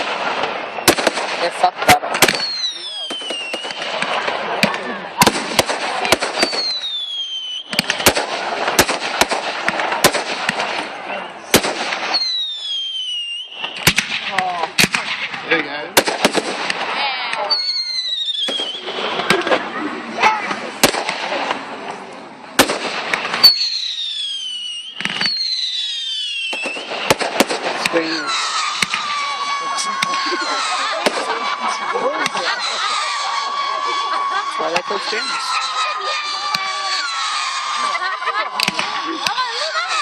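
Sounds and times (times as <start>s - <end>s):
whistling firework: 0.0s - 19.9s, 20.7s - 21.6s, 22.6s - 40.0s
firework bangs: 0.0s - 40.0s
firework crackling: 0.0s - 40.0s.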